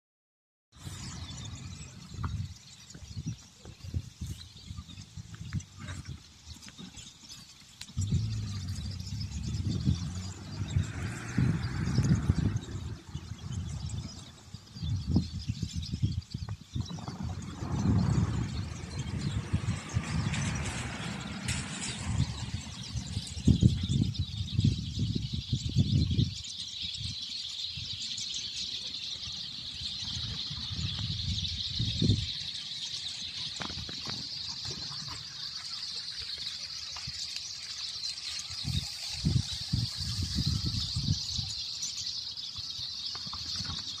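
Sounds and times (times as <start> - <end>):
birds twittering chorus: 0.7 - 44.0.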